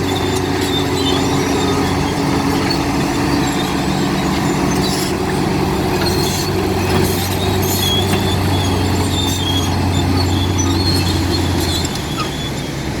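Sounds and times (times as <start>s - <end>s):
bulldozer diesel engine running: 0.0s - 13.0s
metallic squeals from tracks: 0.0s - 13.0s.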